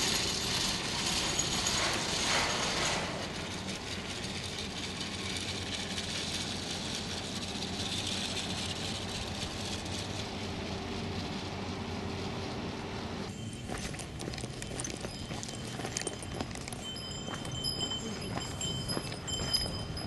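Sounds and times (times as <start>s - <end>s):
cable car clicking and rattling: 0.0s - 12.6s, 13.2s - 20.0s.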